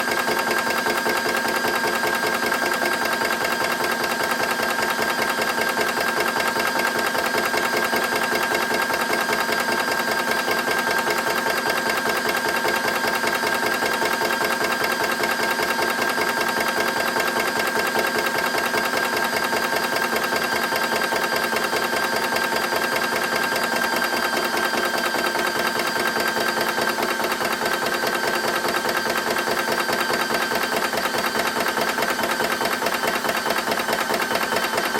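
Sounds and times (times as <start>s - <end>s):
air compressor chugging: 0.0s - 34.9s.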